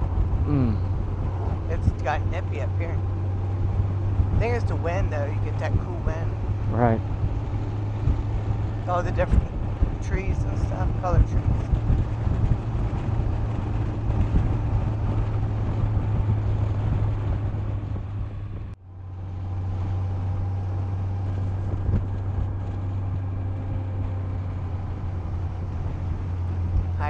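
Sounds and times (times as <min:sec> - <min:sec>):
motorcycle engine cruising: 0:00.0 - 0:27.0
wind noise: 0:00.0 - 0:27.0.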